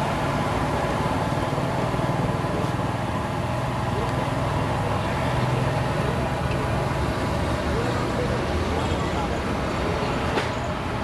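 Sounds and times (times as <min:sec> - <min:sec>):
road traffic din: 0:00.0 - 0:11.0.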